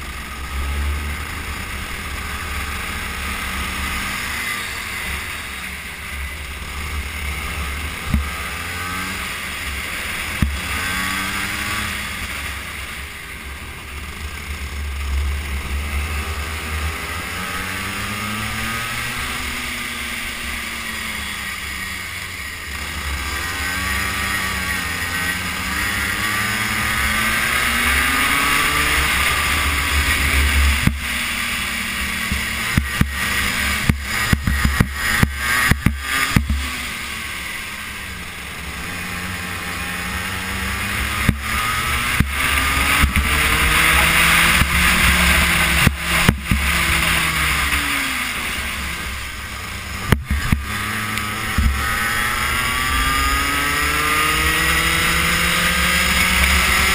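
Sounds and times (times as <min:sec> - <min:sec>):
kart engine revving: 0:00.0 - 0:56.9.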